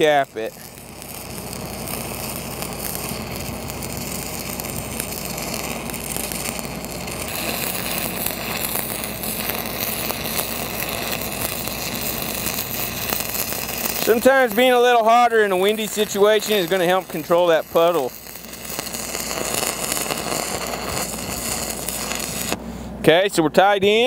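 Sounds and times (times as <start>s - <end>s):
welding arc crackling: 0.0s - 22.6s.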